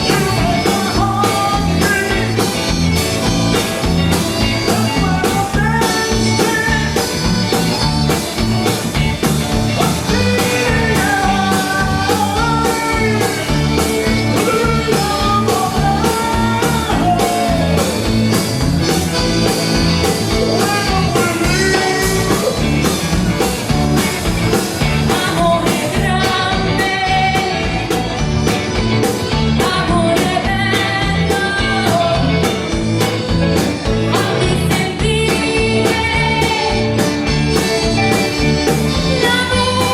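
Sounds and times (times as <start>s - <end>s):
band playing rock and roll: 0.0s - 39.9s.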